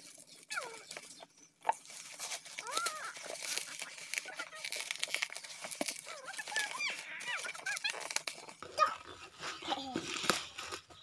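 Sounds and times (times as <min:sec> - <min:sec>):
chickens calling: 0:00.0 - 0:09.6
plastic bag crinkling: 0:00.0 - 0:11.0.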